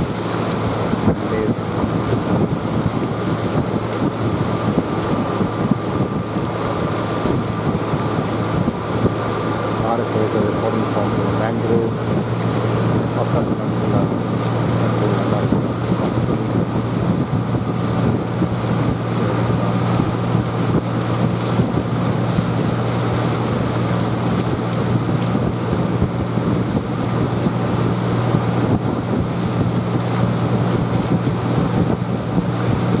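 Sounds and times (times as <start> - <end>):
boat motor running: 0.0 - 33.0
wind noise on microphone: 0.0 - 33.0.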